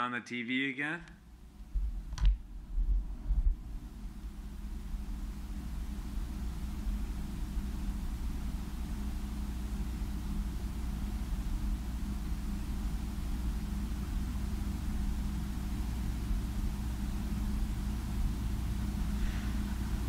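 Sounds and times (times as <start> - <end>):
steady low hum: 1.0 - 20.0.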